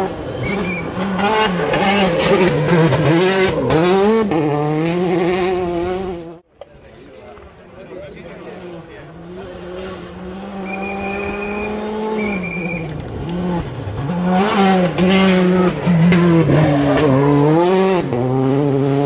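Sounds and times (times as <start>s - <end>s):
rally car engine at speed: 0.0s - 6.5s, 8.6s - 19.0s.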